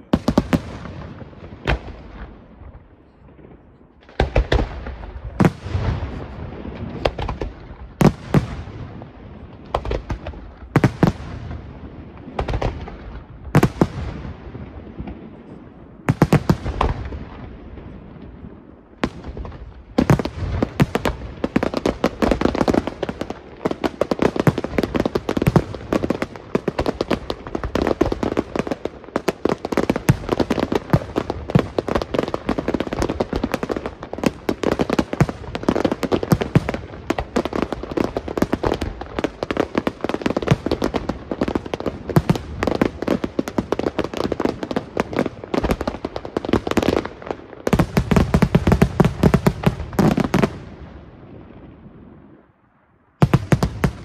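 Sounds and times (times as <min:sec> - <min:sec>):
fireworks bangs and crackling: 0:00.0 - 0:52.6, 0:53.2 - 0:54.0.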